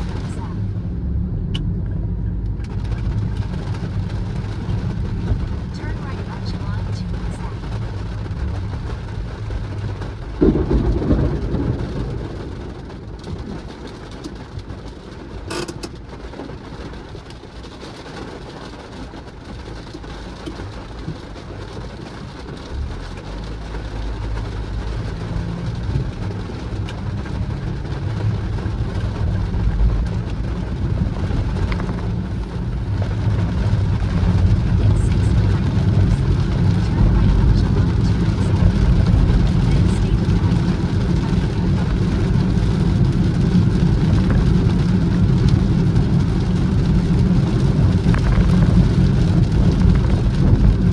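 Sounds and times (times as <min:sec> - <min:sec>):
rain hiss: 0:00.0 - 0:00.9, 0:02.6 - 0:50.9
car road and engine rumble: 0:00.0 - 0:50.9.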